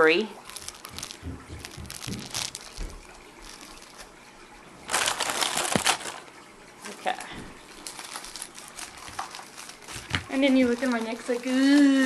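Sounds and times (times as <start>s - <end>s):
plastic bag crinkling: 0.0s - 4.2s, 4.8s - 12.0s.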